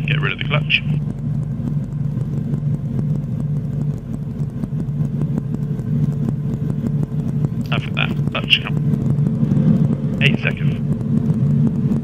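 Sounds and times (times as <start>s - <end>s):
constant hum: 0.0s - 12.0s
helicopter engine and rotor idling: 0.0s - 12.0s.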